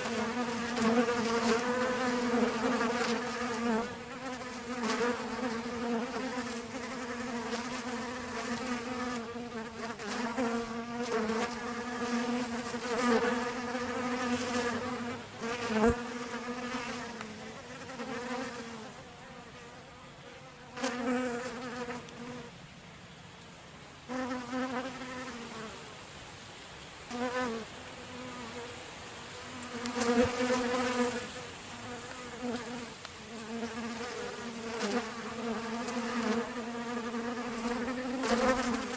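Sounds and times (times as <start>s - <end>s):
bees buzzing: 0.0s - 22.5s, 29.3s - 38.9s.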